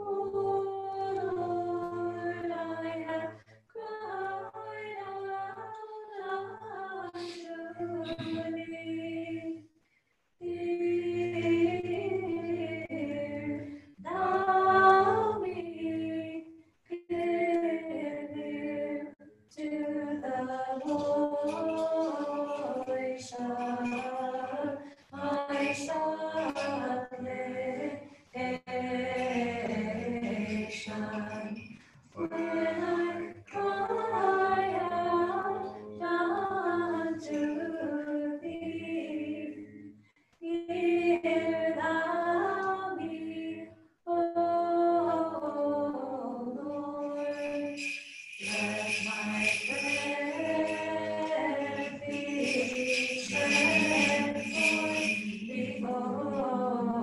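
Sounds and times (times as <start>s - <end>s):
choir singing a cappella hymn: 0.0s - 9.6s, 10.4s - 43.7s, 44.3s - 57.0s.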